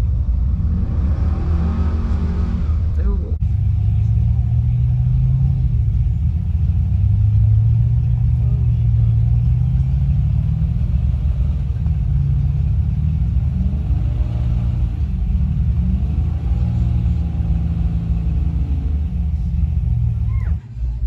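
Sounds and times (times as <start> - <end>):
engine running under load: 0.0 - 21.0
steady low rumble: 0.0 - 21.0.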